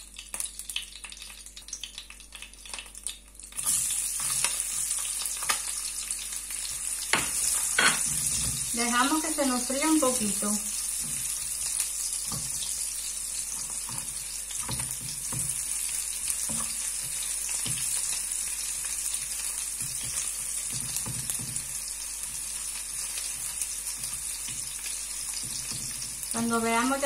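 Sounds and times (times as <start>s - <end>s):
garlic sizzling in oil: 0.0s - 27.0s.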